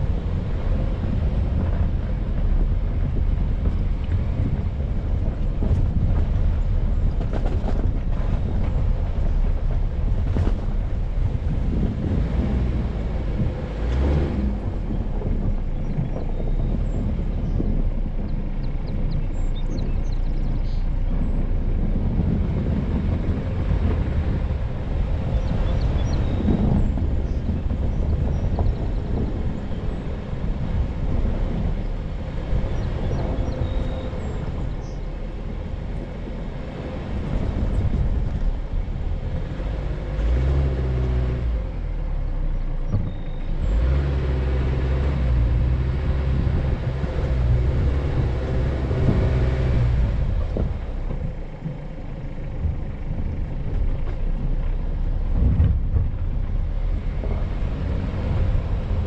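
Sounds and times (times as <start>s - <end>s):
low engine drone: 0.0s - 59.0s
off-road vehicle engine running: 0.0s - 59.0s.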